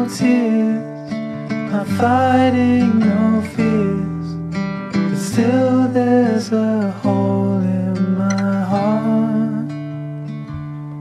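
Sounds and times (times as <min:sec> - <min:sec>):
song with acoustic guitar: 0:00.0 - 0:11.0.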